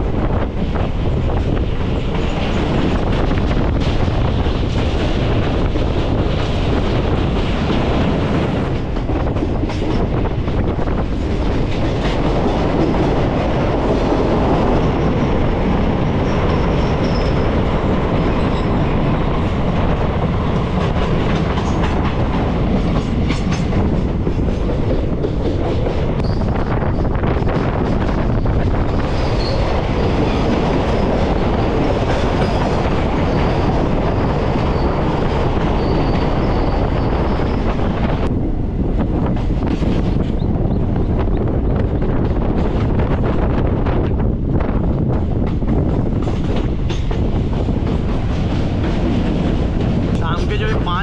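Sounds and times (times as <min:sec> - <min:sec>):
train wheels clattering over rail joints: 0:00.2 - 0:38.4, 0:39.0 - 0:50.3.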